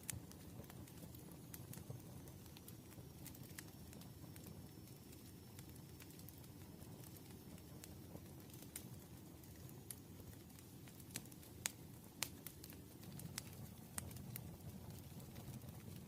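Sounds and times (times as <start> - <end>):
campfire crackling and popping: 0.0 - 16.0
low rumble of fire: 0.0 - 16.0.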